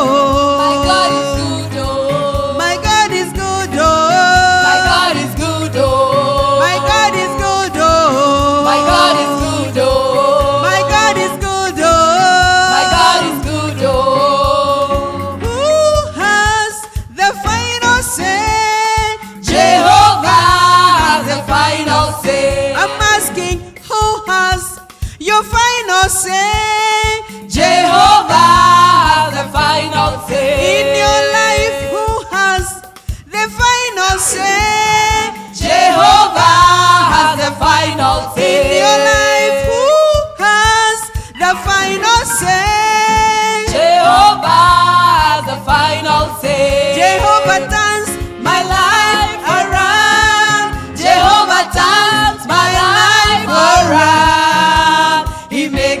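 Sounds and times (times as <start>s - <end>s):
instrumental backing: 0.0s - 56.0s
voices singing gospel song: 0.0s - 56.0s.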